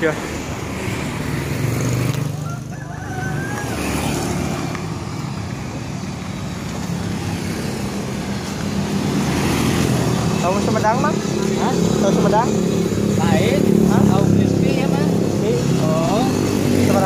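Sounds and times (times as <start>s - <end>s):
motor vehicles rumbling: 0.0s - 17.0s.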